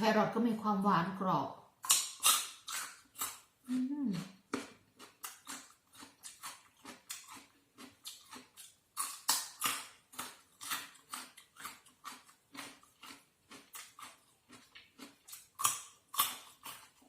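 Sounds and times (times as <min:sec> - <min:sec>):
chewing and mouth smacks: 0:01.8 - 0:03.5, 0:04.2 - 0:17.0.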